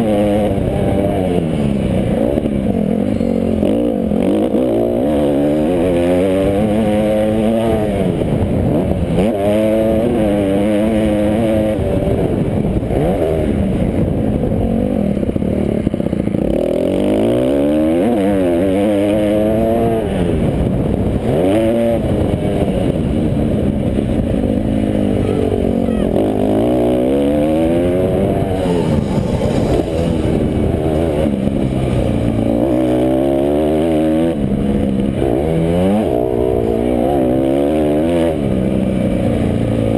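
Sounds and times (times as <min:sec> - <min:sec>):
motocross motorcycles revving: 0:00.0 - 0:39.9.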